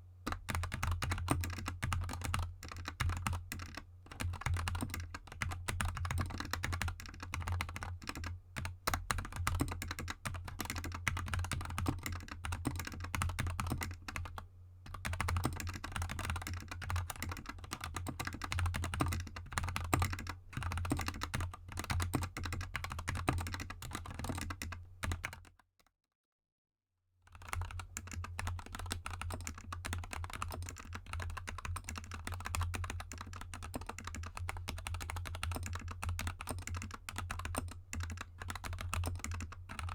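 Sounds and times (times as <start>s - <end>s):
fast mechanical keyboard typing: 0.3s - 25.5s, 27.3s - 39.9s.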